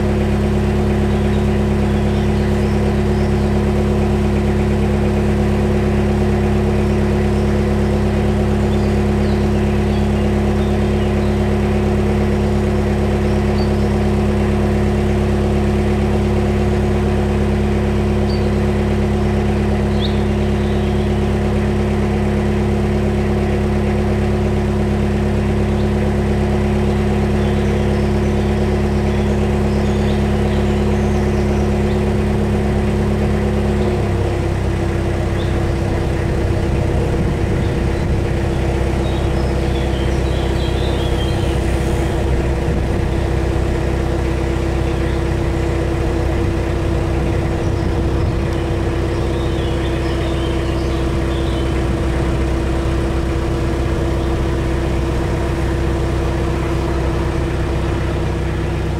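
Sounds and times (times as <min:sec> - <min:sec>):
boat diesel engine running: 0:00.0 - 0:58.9.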